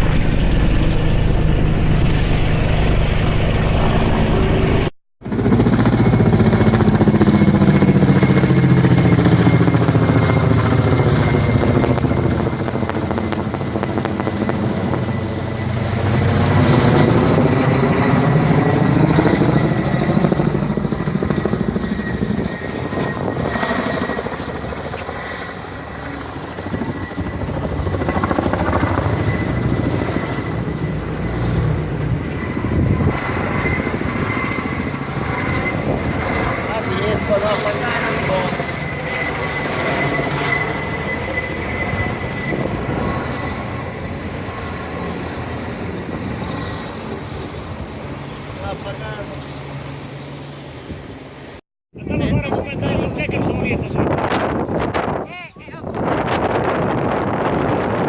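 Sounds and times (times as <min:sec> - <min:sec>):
helicopter flying over: 0:00.0 - 0:58.0
thin steady turbine whine: 0:00.0 - 0:58.0.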